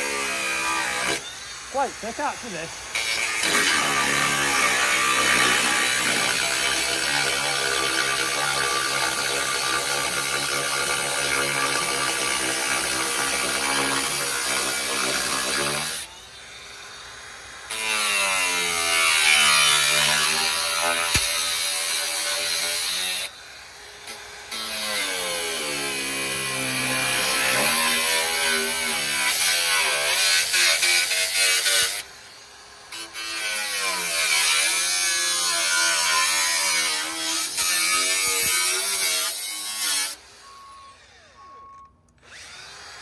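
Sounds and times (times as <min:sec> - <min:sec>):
angle grinder cutting steel: 0:00.0 - 0:41.5, 0:42.2 - 0:43.0.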